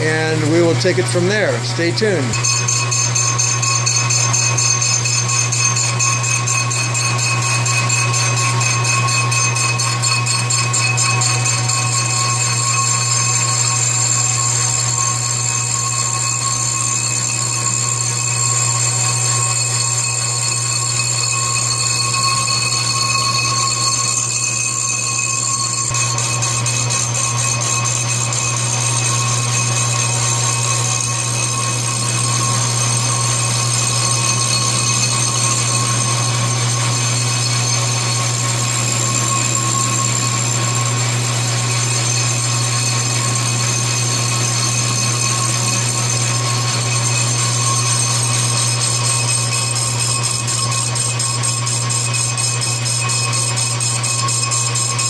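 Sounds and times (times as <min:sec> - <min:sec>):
milling machine humming: 0:00.0 - 0:55.0
tool bit cutting metal whine: 0:00.0 - 0:55.0.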